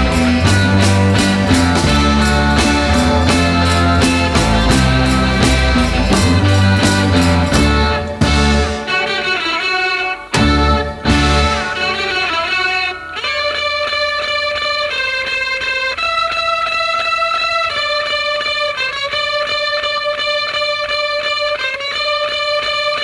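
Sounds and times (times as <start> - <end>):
electric guitar music pulsing: 0.0 - 23.0.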